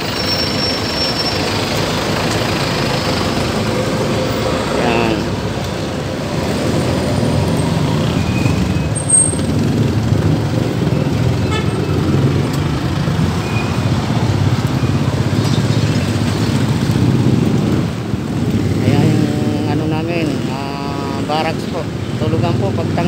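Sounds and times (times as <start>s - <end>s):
street traffic: 0.0s - 23.0s
vehicle engine rumbling: 0.0s - 23.0s.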